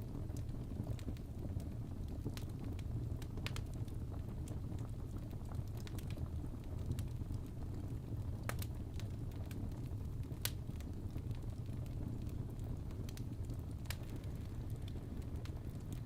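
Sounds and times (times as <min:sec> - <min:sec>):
fire crackling and popping: 0:00.0 - 0:16.0
flames rumbling: 0:00.0 - 0:16.0.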